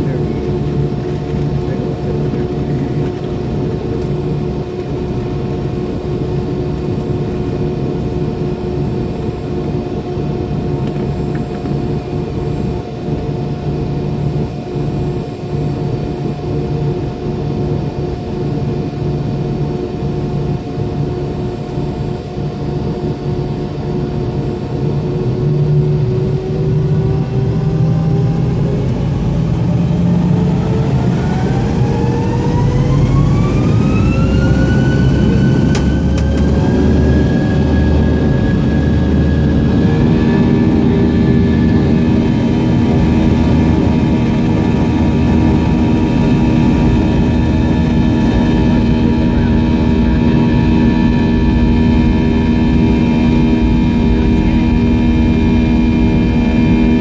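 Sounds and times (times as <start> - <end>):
low engine rumble: 0.0 - 14.0, 23.7 - 57.0
jet engine whine: 0.0 - 57.0.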